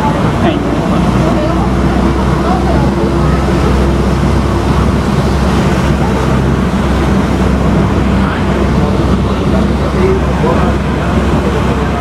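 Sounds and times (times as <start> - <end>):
heavy rain: 0.0 - 12.0
low rumble: 0.0 - 12.0.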